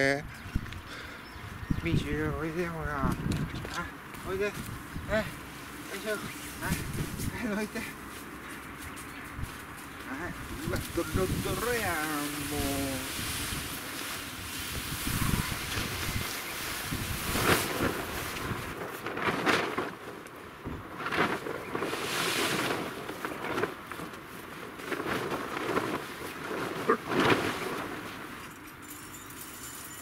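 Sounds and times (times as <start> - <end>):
tent groundsheets rustling: 1.9 - 30.0.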